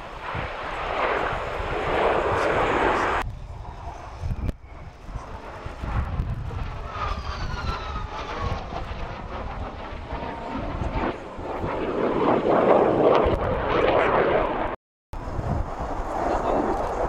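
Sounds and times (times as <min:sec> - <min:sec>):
jet engine passing by: 0:00.0 - 0:17.0.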